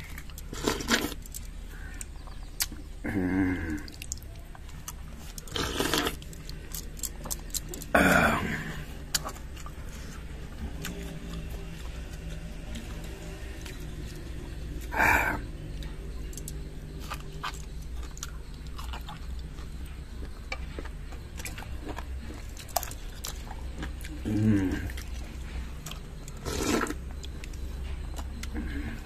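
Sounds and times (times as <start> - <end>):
person chewing crunchy fruit: 0.0 - 29.0.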